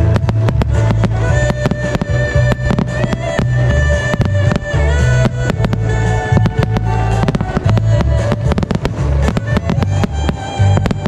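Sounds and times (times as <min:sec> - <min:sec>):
fireworks bangs and crackles: 0:00.0 - 0:11.0
muffled show music with heavy bass: 0:00.0 - 0:11.0.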